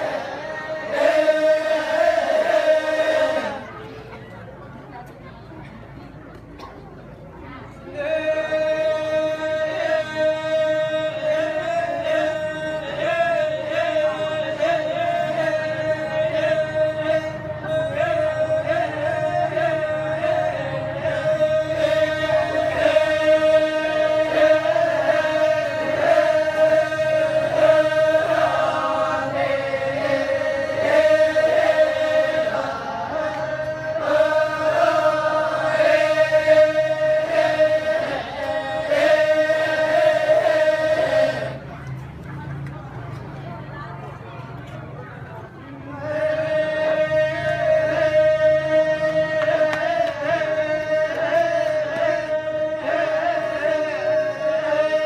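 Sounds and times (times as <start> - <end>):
voices chanting in chorus: 0.0 - 4.3, 7.9 - 42.6, 45.7 - 55.0.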